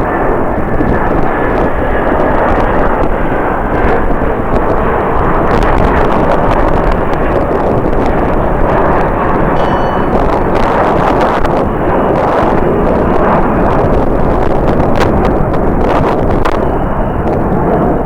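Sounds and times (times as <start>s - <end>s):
jet engine rush: 0.0s - 18.0s
wind buffeting microphone: 0.0s - 18.0s.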